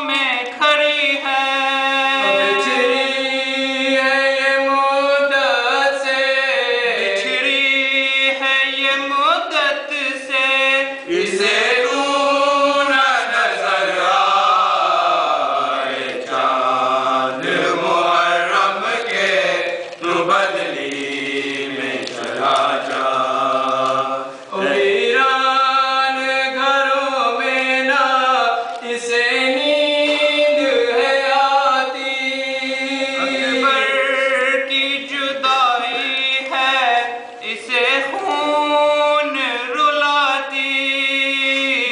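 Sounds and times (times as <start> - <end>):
men chanting a lament: 0.0 - 41.9.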